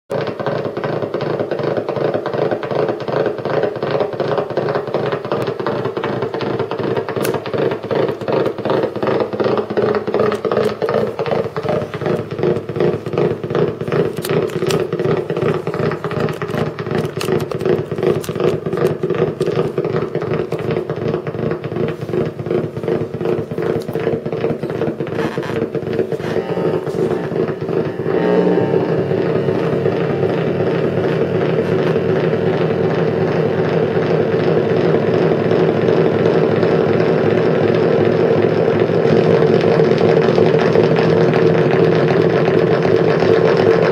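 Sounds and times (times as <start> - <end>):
pulsing electric guitar: 8.7 - 43.9.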